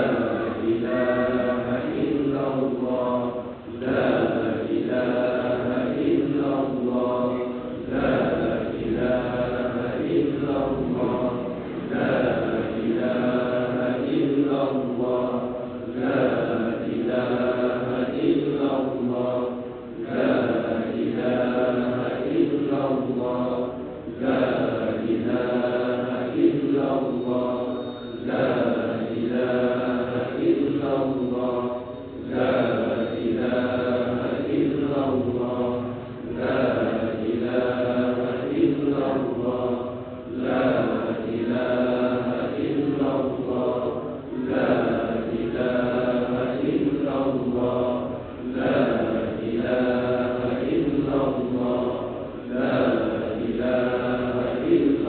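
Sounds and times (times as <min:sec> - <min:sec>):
men chanting: 0:00.0 - 0:55.0.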